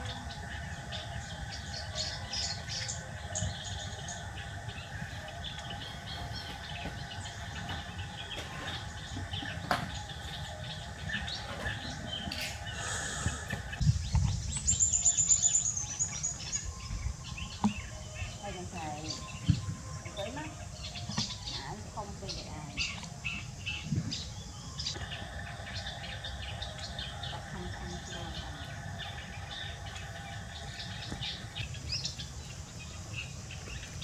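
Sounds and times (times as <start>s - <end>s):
bird trill: 0.0s - 34.0s
small birds chirping: 0.0s - 34.0s.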